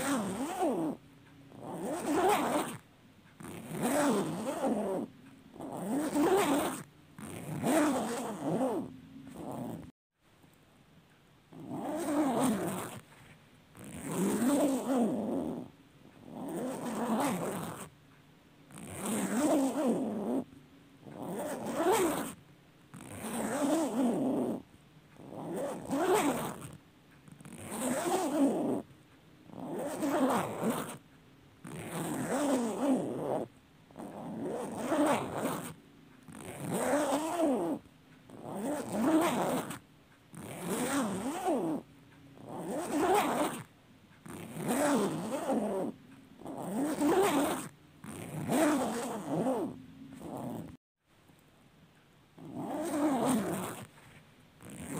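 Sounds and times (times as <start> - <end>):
zipper pulled open and shut: 0.0 - 9.9, 11.5 - 17.9, 18.7 - 28.9, 29.5 - 50.8, 52.4 - 54.9.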